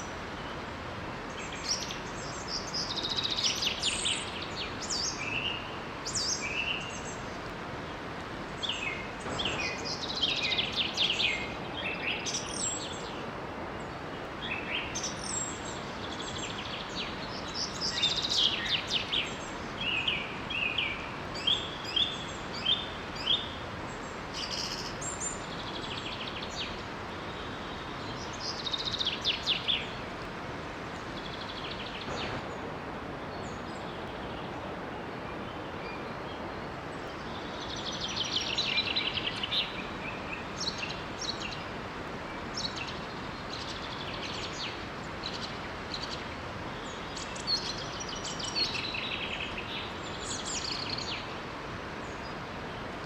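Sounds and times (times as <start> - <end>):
small waterfall rushing: 0.0 - 53.0
songbirds singing and chirping: 0.0 - 53.0.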